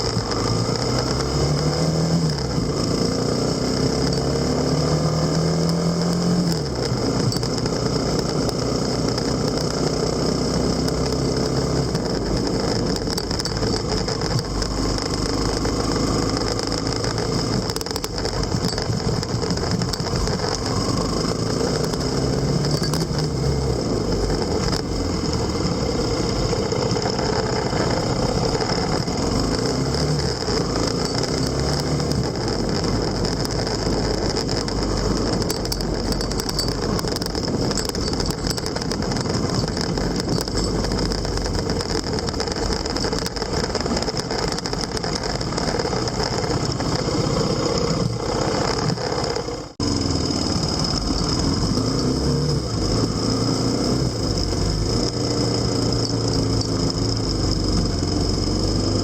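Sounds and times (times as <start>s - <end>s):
motorcycle engine accelerating: 0.0s - 59.0s
road and wind noise: 0.0s - 59.0s.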